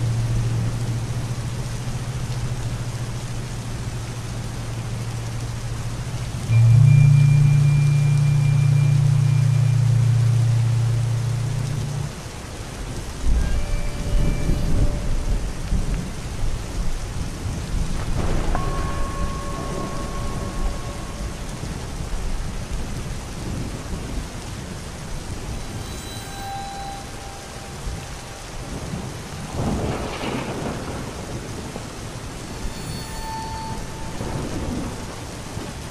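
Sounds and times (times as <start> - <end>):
low steady hum: 0.0 - 35.9
steady rain: 0.0 - 35.9
thunder rumbling: 0.0 - 35.9.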